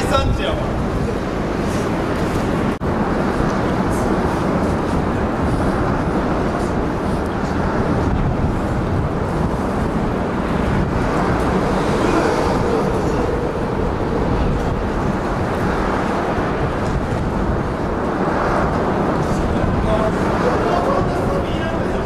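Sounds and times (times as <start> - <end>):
traffic rumble on bridge: 0.0 - 22.0.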